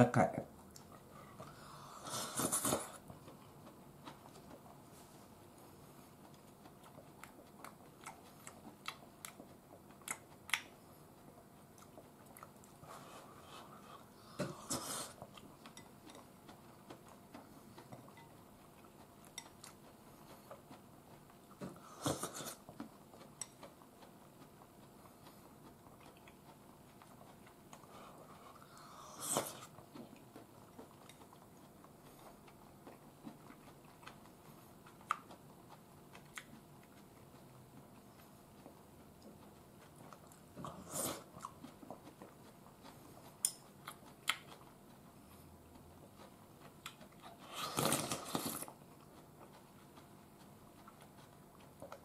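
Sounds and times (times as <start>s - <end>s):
noisy eating sounds: 0.0s - 52.0s
person chewing: 0.6s - 52.0s.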